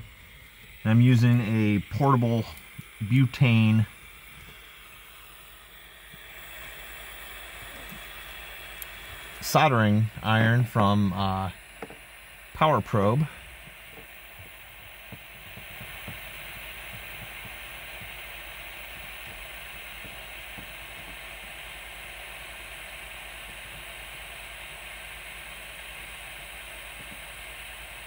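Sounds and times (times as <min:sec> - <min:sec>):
gas soldering iron hissing: 0:00.0 - 0:28.0.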